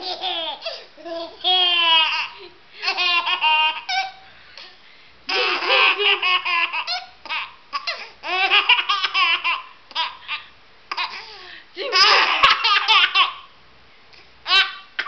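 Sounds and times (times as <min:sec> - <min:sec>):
baby laughing: 0:00.0 - 0:04.2, 0:05.3 - 0:13.5, 0:14.4 - 0:15.0.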